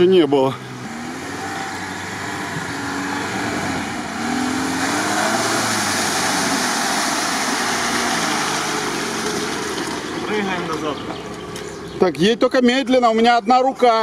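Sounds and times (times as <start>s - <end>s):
engine revving under load: 0.0s - 12.0s.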